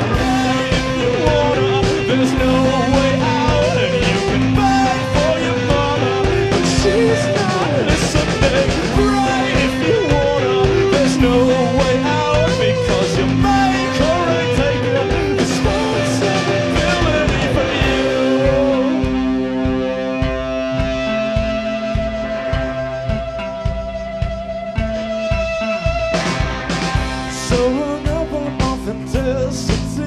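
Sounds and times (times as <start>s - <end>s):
rock band playing loudly: 0.0s - 30.0s.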